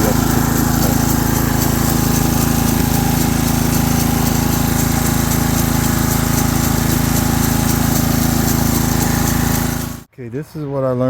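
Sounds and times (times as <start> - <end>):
aerator engine running: 0.0 - 10.1.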